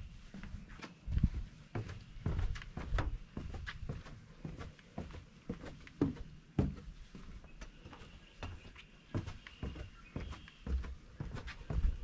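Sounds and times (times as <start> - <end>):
footsteps on wooden boards: 0.3 - 12.0.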